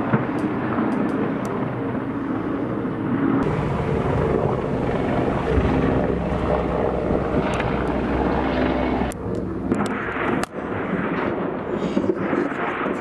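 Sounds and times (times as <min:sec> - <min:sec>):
helicopter rotor and engine rumble: 0:00.0 - 0:13.0.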